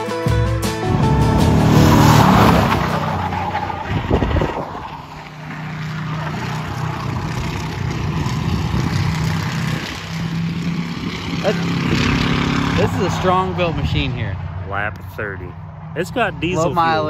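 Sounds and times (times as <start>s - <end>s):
car engine running hard: 0.6s - 17.0s.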